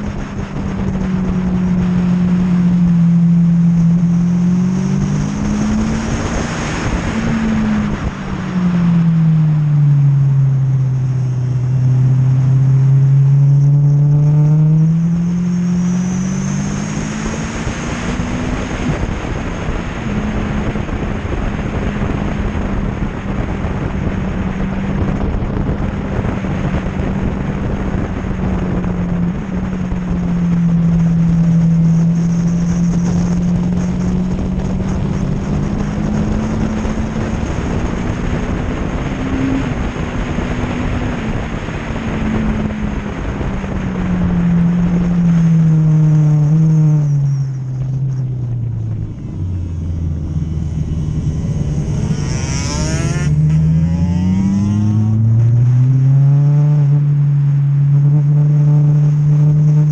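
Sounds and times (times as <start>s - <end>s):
motorcycle engine running hard: 0.0s - 59.9s
wind rushing over camera: 0.0s - 59.9s.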